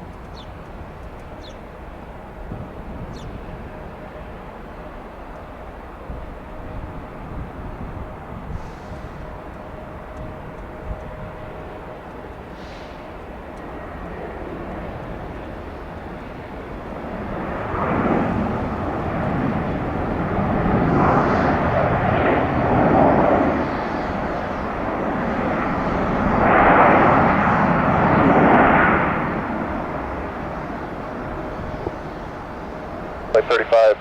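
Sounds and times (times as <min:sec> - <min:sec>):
jet engines of landing airliner: 0:00.0 - 0:34.0.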